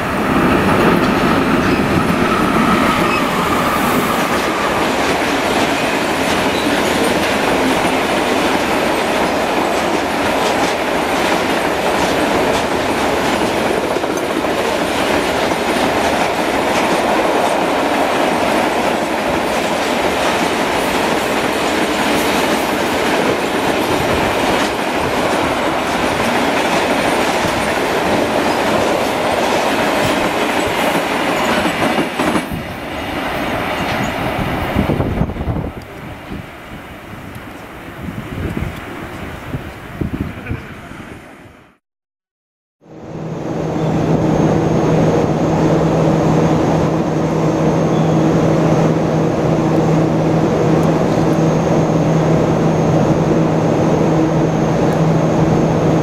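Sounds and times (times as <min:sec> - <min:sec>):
freight train passing: 0:00.0 - 0:41.8, 0:42.8 - 0:56.0.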